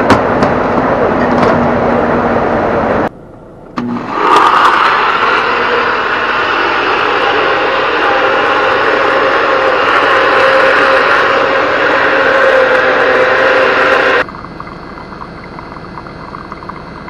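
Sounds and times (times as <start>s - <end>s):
vehicle running noise: 0.0s - 17.0s.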